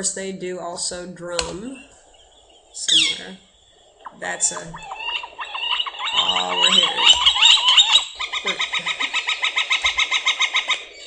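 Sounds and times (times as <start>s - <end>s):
northern flicker calls: 0.9s - 11.0s
fast repeated bird call: 1.6s - 11.0s.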